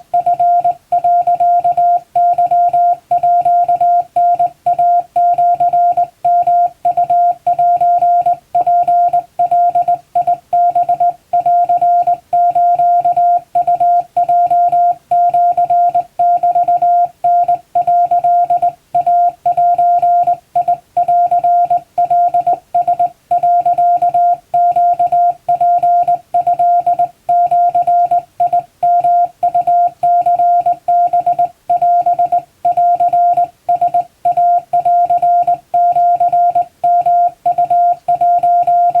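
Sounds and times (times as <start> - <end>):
morse code beeps: 0.1 - 39.0.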